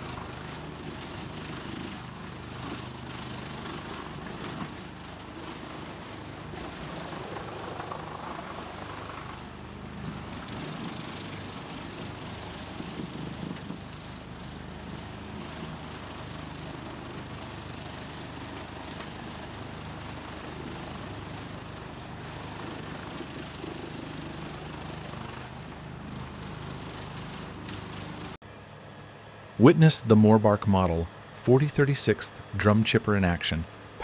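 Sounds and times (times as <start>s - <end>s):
wood chipper running: 0.0s - 29.6s.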